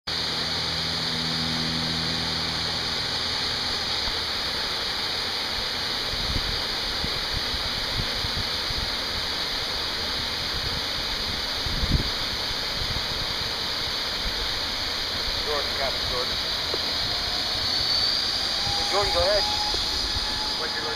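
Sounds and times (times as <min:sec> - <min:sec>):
small waterfall over rocks: 0:00.1 - 0:19.0.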